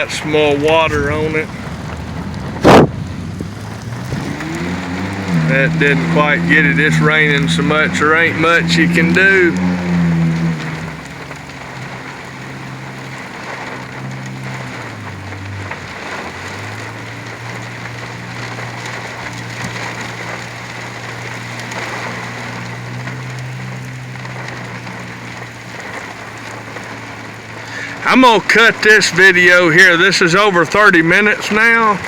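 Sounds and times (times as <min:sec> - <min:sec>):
heavy rain on a truck: 0:00.0 - 0:32.0
truck engine humming: 0:00.0 - 0:32.0.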